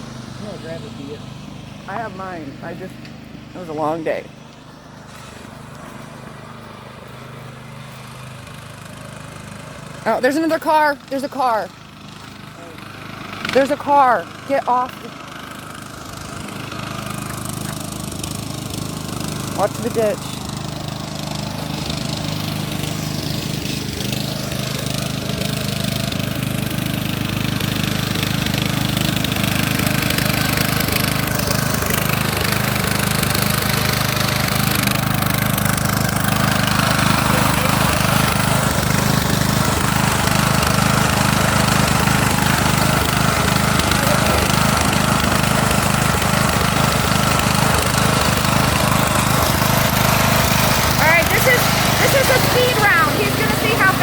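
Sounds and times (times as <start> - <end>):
riding lawnmower engine running: 0.0 - 54.0.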